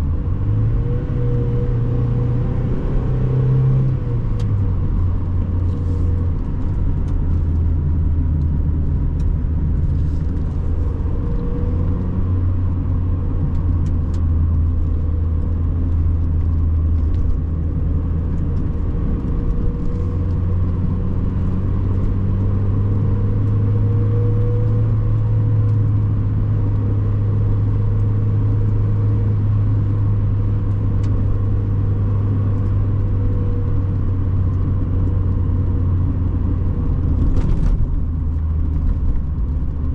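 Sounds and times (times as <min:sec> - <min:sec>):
car engine cruising: 0:00.0 - 0:39.9
road and tyre noise: 0:00.0 - 0:39.9.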